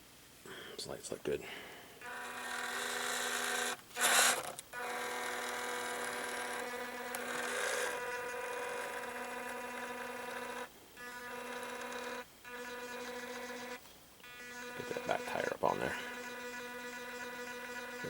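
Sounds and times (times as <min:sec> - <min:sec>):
toy car motor whining: 0:02.0 - 0:18.0.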